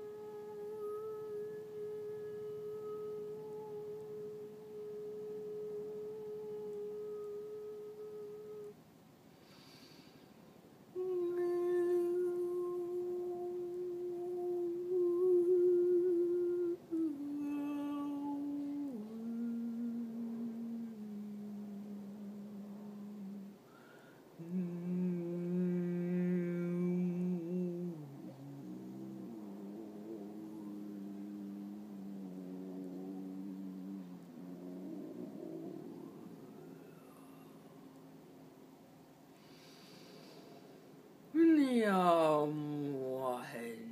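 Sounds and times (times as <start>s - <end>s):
woman humming long notes: 0.0s - 8.8s, 10.9s - 38.1s, 41.3s - 43.9s.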